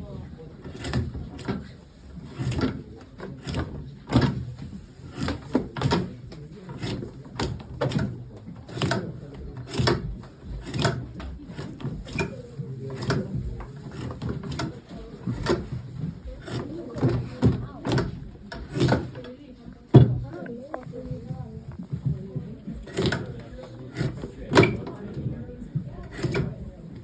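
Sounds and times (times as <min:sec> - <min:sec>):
sharp knocking and clattering: 0:00.6 - 0:27.0.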